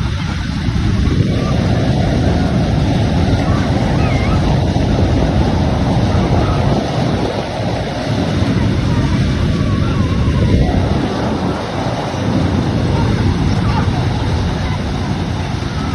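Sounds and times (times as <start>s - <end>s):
carnival ride rushing rumble: 0.0s - 15.9s.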